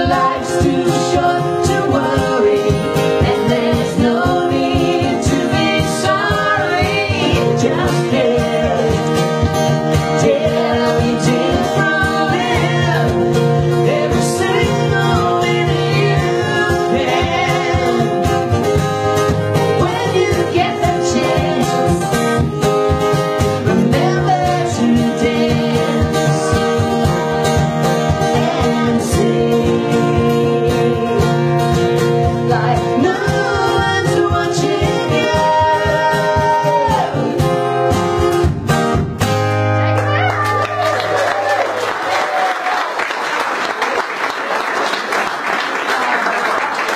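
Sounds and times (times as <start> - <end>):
woman singing country style: 0.0 - 38.1
acoustic guitar: 0.0 - 46.9.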